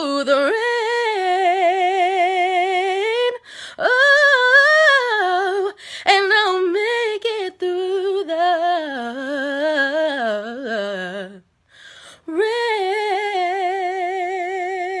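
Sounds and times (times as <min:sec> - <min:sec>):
woman singing a cappella: 0:00.0 - 0:15.0.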